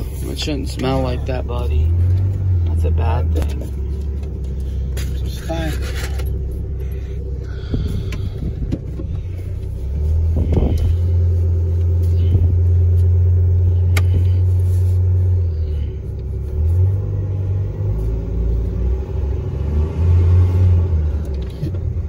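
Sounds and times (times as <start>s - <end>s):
truck engine rumble: 0.0s - 22.0s.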